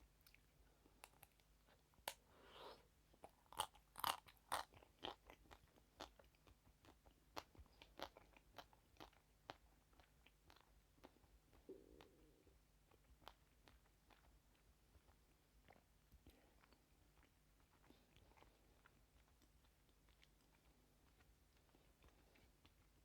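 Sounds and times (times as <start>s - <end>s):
person chewing crunchy food: 0.2s - 23.0s.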